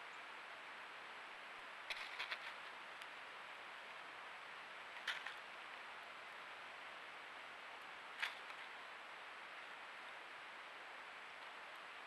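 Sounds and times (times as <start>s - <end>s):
microphone hiss: 0.0s - 12.0s.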